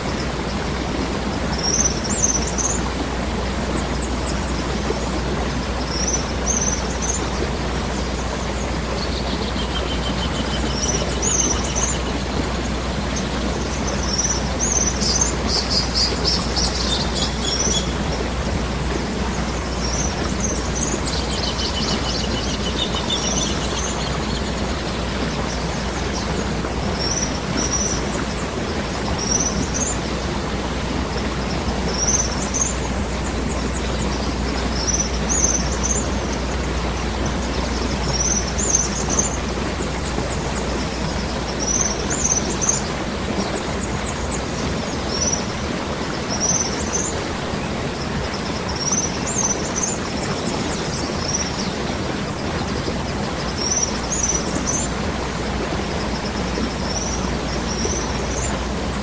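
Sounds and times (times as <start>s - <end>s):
small birds chirping: 0.0s - 47.4s, 48.0s - 55.0s
waterfall rushing: 0.0s - 59.0s.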